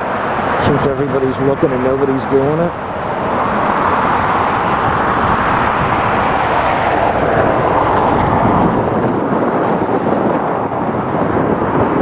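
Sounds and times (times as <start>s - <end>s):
jet engine rush: 0.0s - 12.0s.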